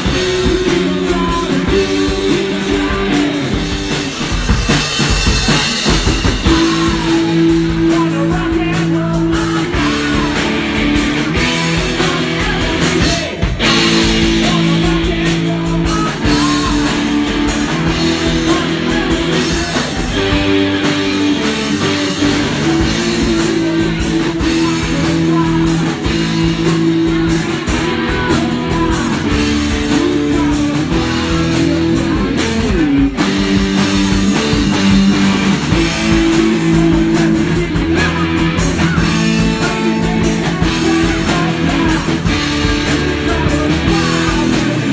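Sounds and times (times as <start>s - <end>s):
person singing into microphone: 0.0s - 3.9s, 5.4s - 44.9s
drum kit beat: 0.0s - 44.9s
electric guitar chords: 0.0s - 44.9s.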